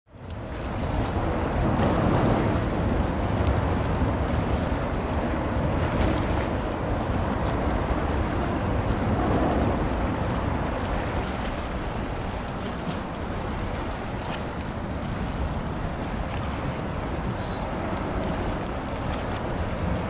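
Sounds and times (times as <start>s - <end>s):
waves washing: 0.1s - 20.0s
wind buffeting microphone: 0.2s - 20.0s.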